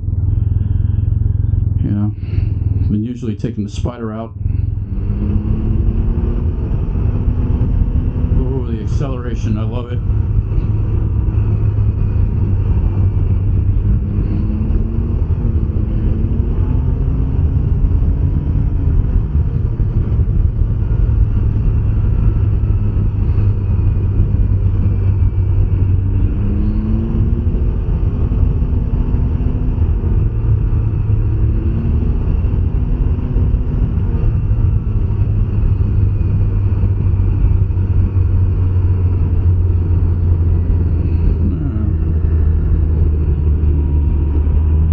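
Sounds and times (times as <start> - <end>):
three-wheeler engine droning: 0.0 - 44.9.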